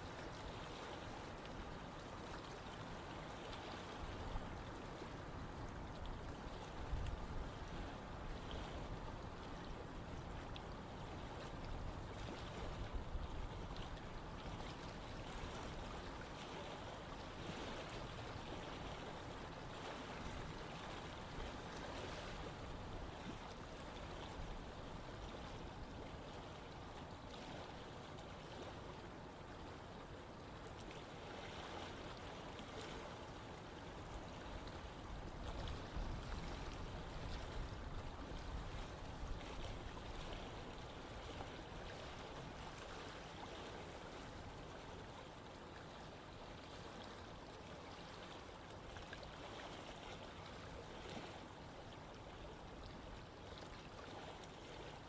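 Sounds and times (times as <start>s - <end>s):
running water rushing and gurgling: 0.0s - 55.0s.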